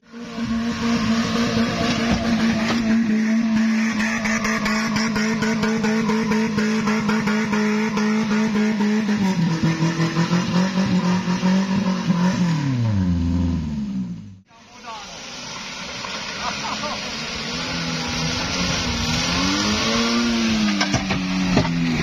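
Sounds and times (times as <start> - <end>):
truck engine labouring: 0.0 - 22.0.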